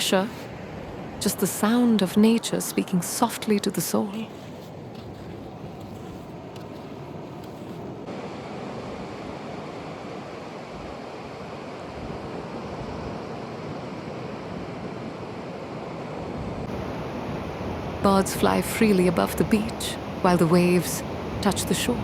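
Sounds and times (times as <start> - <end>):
waves breaking on a beach: 0.0 - 22.0.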